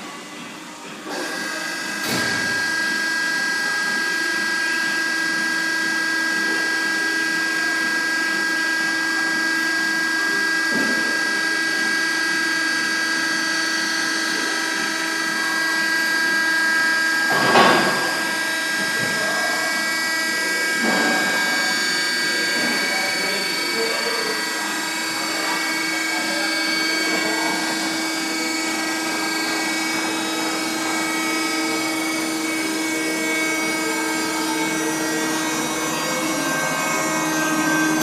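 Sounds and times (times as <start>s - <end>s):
hydraulic press whine: 0.0s - 38.0s.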